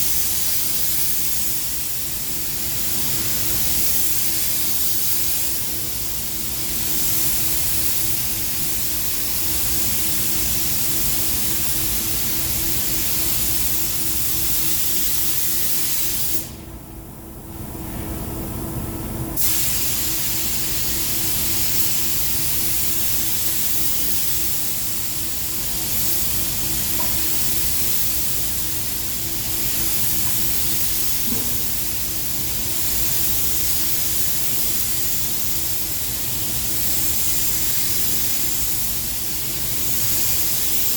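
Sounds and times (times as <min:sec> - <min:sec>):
spray gun hissing: 0:00.0 - 0:16.6, 0:19.4 - 0:40.9.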